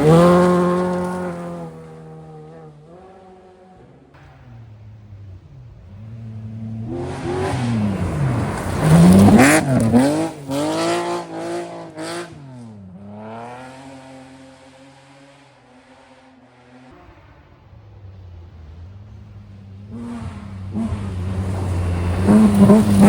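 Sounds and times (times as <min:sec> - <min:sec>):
rally car engine passing at speed: 0:00.0 - 0:23.0.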